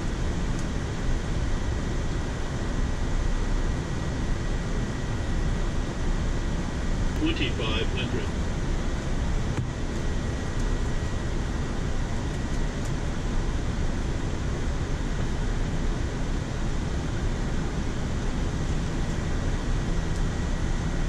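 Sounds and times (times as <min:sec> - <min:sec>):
rush of airflow and air conditioning: 0:00.0 - 0:21.0.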